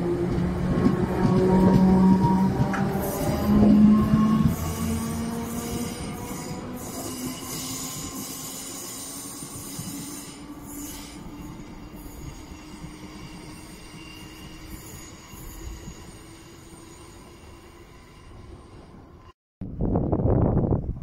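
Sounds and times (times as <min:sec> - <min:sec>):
train rumbling on rails: 0:00.0 - 0:19.4.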